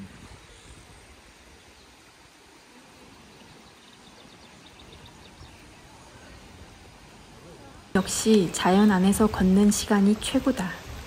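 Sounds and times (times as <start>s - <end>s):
stream flowing over stones: 0.0s - 11.0s.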